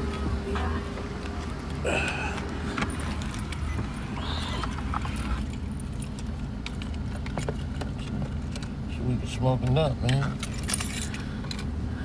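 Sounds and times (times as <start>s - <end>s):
handling clicks and rustles: 0.0s - 11.8s
car engine low hum: 0.0s - 12.0s.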